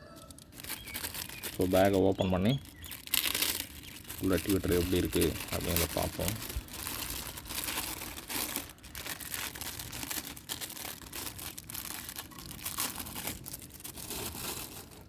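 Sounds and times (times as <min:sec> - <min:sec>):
plastic bag crinkling: 0:00.2 - 0:15.0.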